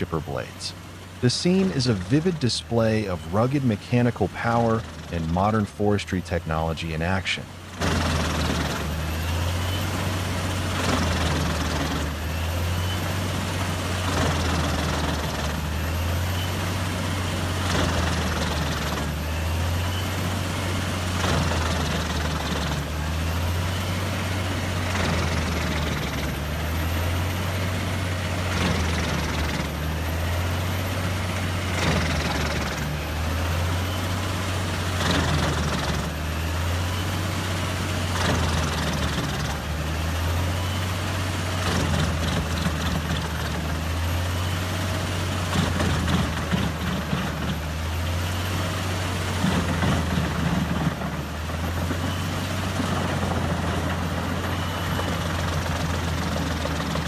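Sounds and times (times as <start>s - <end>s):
wood chipper engine drone: 0.0s - 57.0s.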